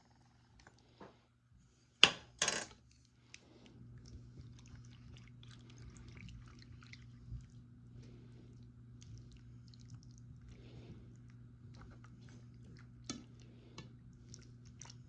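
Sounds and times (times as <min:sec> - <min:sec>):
steady low hum: 0:00.0 - 0:15.0
faint crackling and rustling: 0:02.8 - 0:15.0.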